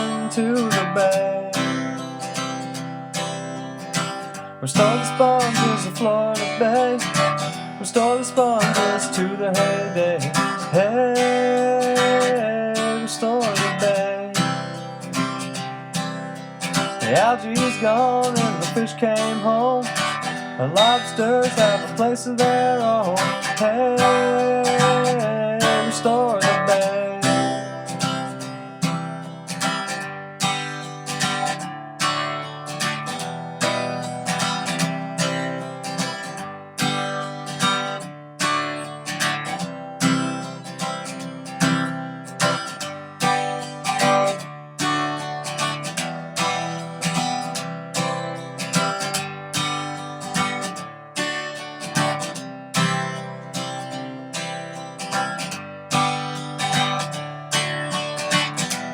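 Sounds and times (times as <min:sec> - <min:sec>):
acoustic guitar strumming: 0:00.0 - 0:58.9.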